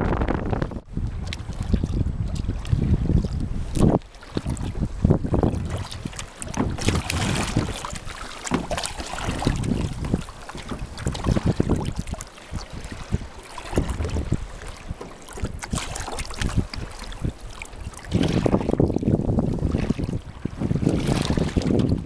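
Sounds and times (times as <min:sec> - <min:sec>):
water slapping against hull: 0:00.0 - 0:22.0
wind buffeting microphone: 0:00.0 - 0:22.0.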